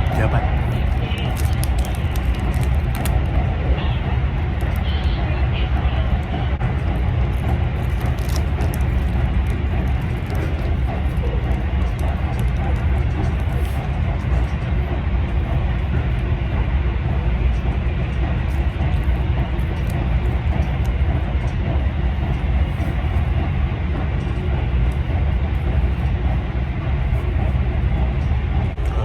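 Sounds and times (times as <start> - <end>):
train rumble inside passenger car: 0.0 - 29.0
wheel and track noise: 0.0 - 29.0.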